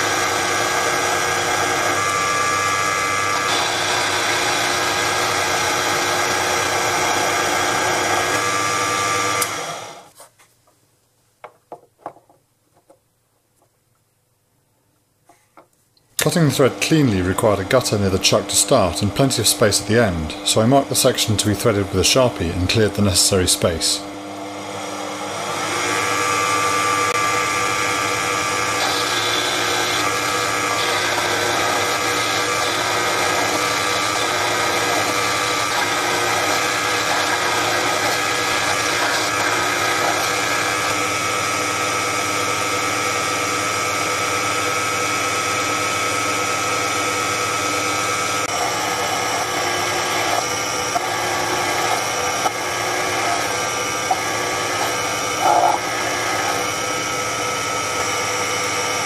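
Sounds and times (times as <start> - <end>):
lathe motor whining: 0.0 - 10.1, 16.2 - 59.0.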